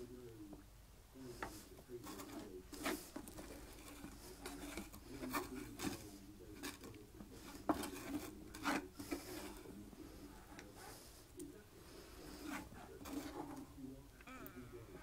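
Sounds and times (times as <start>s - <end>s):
spatula scraping a frying pan: 1.3s - 13.8s.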